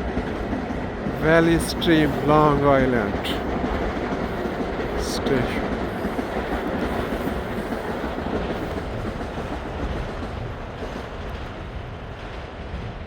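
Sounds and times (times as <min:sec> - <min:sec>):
train clattering on rails: 0:00.0 - 0:13.0.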